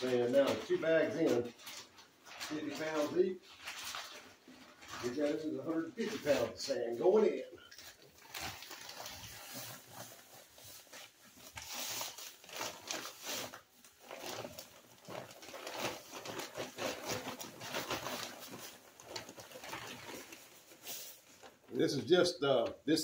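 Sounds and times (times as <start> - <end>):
plastic bag rustling: 0.0 - 22.6.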